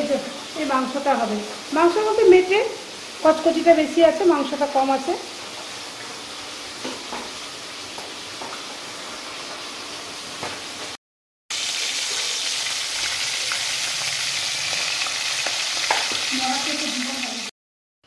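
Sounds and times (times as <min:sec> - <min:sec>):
fish sizzling in hot oil: 0:00.0 - 0:17.5.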